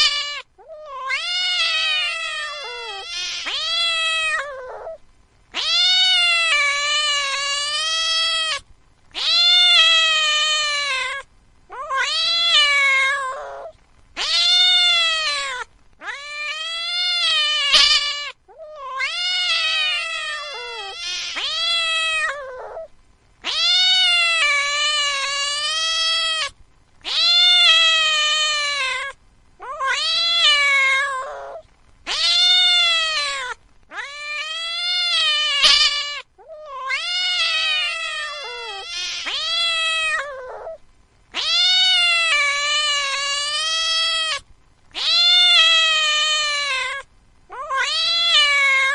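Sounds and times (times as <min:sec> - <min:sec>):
cat yowling: 0:00.0 - 0:48.9.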